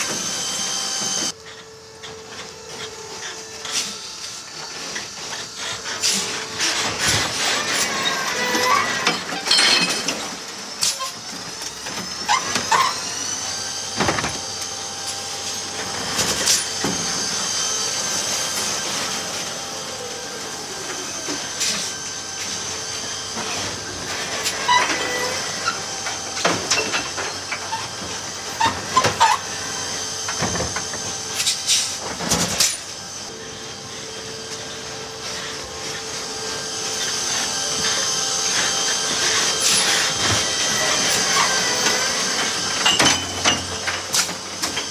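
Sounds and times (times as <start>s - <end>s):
high electric motor whine: 0.0s - 44.9s.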